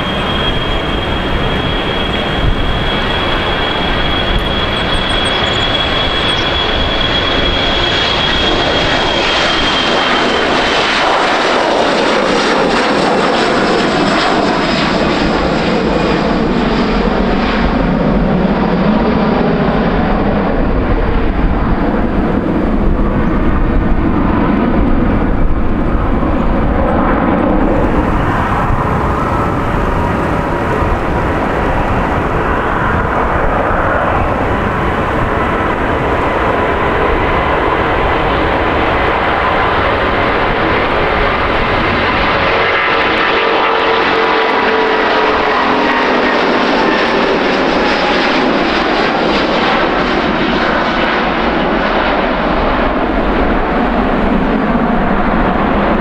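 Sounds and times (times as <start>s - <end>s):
jet engine rumbling roar: 0.0s - 56.0s
jet engines high whine: 0.0s - 56.0s.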